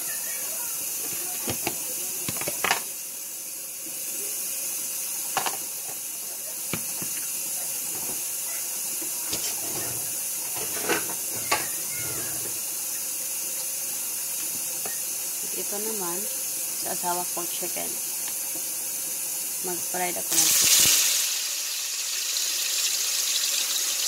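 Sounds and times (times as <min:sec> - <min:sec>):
oil hissing in a wok: 0:00.0 - 0:24.0.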